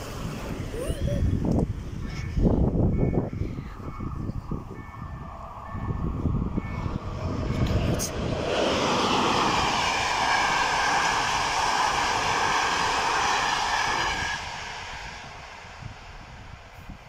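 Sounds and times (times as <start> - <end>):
train rumble: 0.0 - 17.0
train wheels rushing on rails: 0.0 - 17.0.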